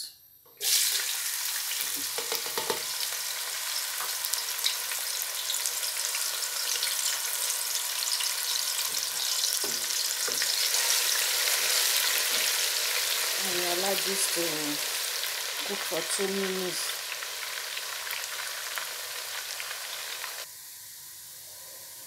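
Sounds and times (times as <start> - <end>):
onions sizzling in hot oil: 0.6 - 22.0.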